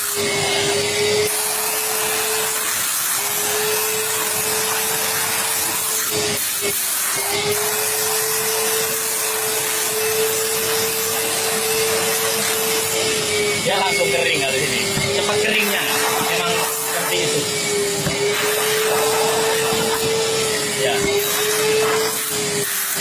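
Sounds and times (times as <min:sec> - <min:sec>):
hissing suction and steam: 0:00.0 - 0:23.0.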